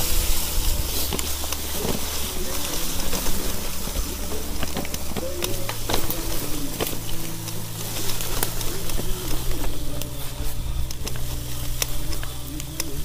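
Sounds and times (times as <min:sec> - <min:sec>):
clicks and knocks from rough ground: 0:00.0 - 0:13.0
electric scooter motor hum: 0:00.0 - 0:13.0
tyre rumble on dirt: 0:00.0 - 0:13.0.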